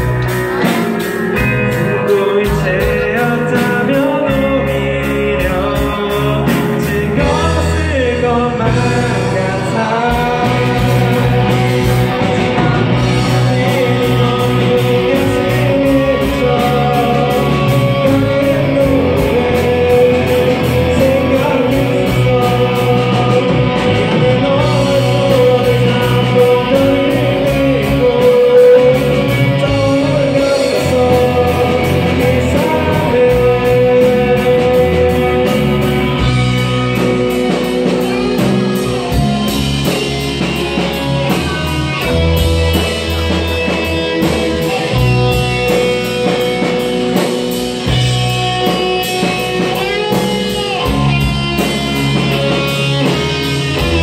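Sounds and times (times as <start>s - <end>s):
lead singer singing: 0.0s - 54.0s
rock band playing live: 0.0s - 54.0s.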